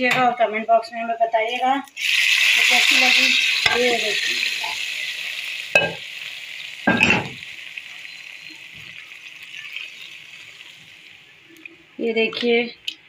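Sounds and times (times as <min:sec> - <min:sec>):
oil sizzling: 0:01.4 - 0:12.8.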